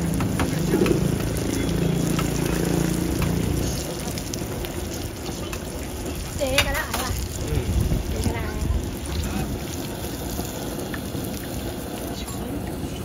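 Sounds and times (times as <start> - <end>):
food frying hiss: 0.0 - 13.0.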